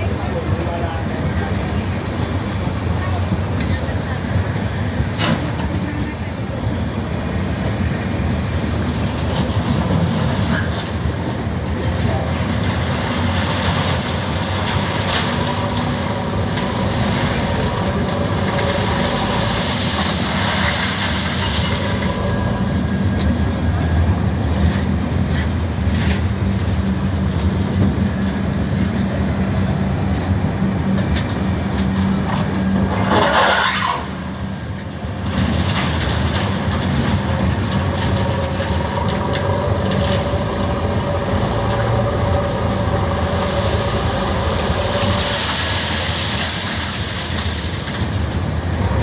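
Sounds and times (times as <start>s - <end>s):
electric train rumbling: 0.0s - 49.0s.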